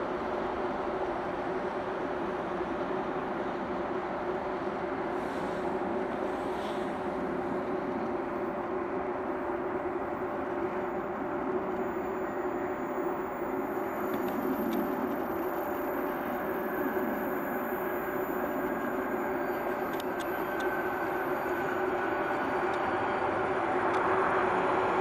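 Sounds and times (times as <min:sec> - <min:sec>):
electric locomotive hum: 0:00.0 - 0:25.0.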